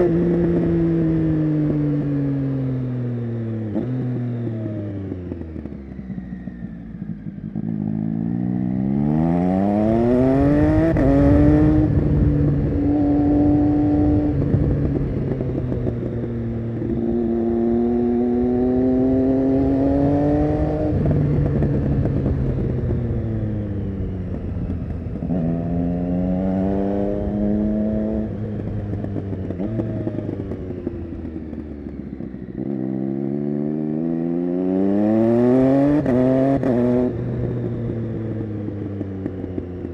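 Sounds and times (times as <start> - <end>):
motorcycle accelerating hard: 0.0 - 39.9.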